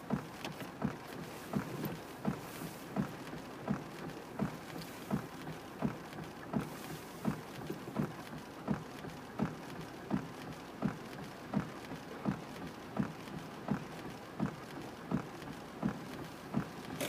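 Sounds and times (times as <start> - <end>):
windshield wipers thumping: 0.0 - 17.0.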